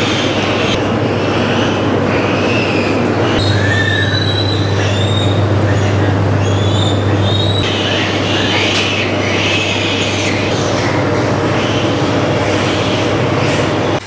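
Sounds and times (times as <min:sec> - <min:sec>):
mechanical hum: 0:00.0 - 0:14.0
pigs squealing: 0:00.0 - 0:14.0.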